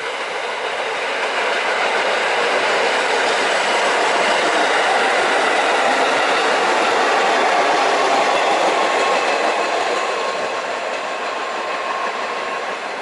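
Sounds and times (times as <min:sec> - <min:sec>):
subway train wheels on rails: 0:00.0 - 0:13.0.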